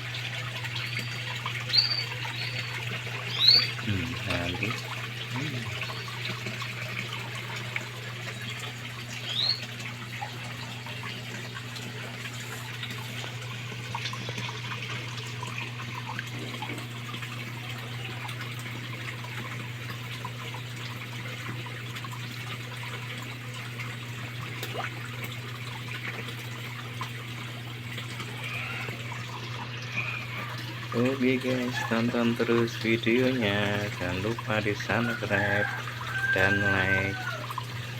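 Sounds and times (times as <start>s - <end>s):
water trickling and splashing: 0.0s - 37.9s.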